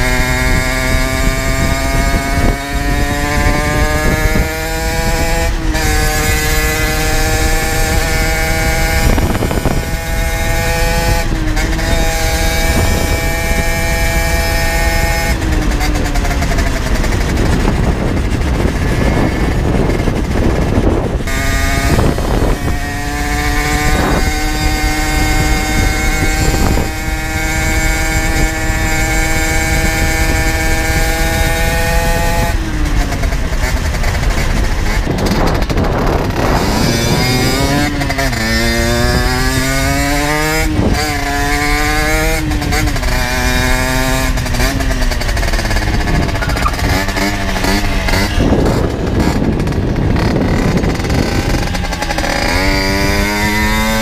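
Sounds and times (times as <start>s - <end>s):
two-stroke engine accelerating: 0.0s - 54.0s.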